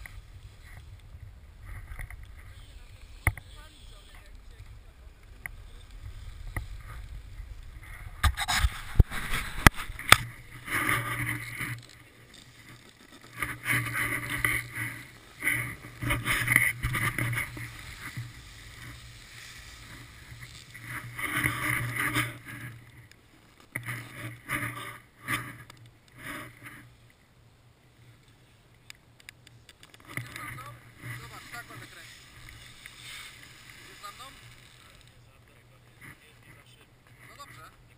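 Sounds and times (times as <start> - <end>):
skis scraping on hard snow: 0.0 - 27.0, 29.9 - 37.8.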